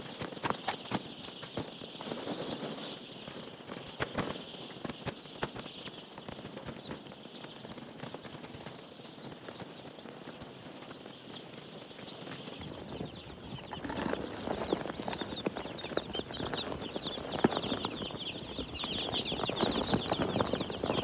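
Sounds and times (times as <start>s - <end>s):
chickens chirping: 0.0s - 21.0s.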